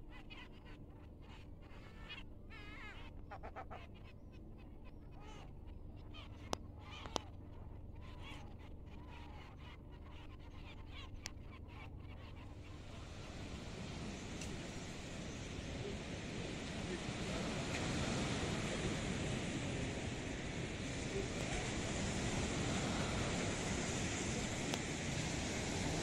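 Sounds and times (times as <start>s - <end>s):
birds calling and chirping: 0.0s - 26.0s
low steady rumble: 0.0s - 26.0s.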